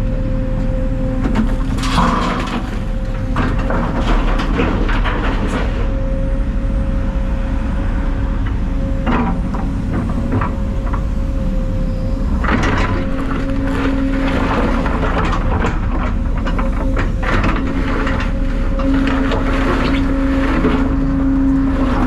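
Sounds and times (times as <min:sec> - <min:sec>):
heavy diesel machinery running: 0:00.0 - 0:22.0
machinery clatter: 0:01.2 - 0:06.0, 0:08.5 - 0:22.0.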